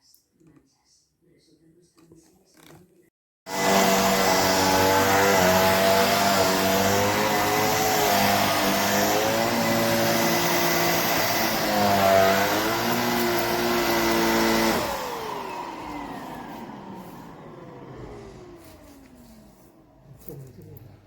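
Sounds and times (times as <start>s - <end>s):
handheld vacuum running: 3.5s - 20.5s.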